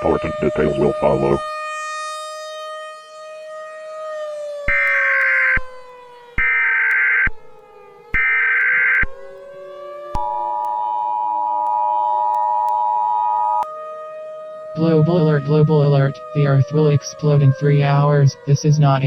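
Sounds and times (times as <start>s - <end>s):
siren tone sliding downward: 0.0s - 19.0s.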